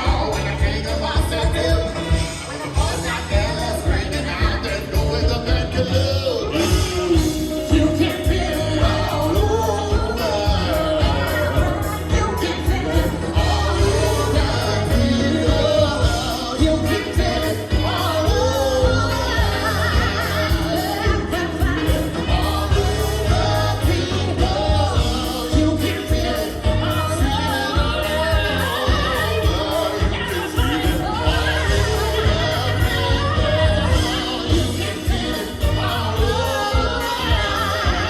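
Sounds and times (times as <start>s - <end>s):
heavy bass line: 0.0s - 38.0s
live band playing amplified music: 0.0s - 38.0s
person singing: 0.0s - 38.0s
steady drum beat: 0.0s - 38.0s.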